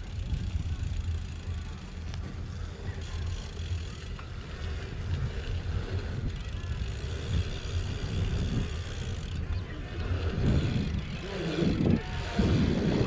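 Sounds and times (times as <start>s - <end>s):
wind buffeting camera: 0.0s - 13.0s.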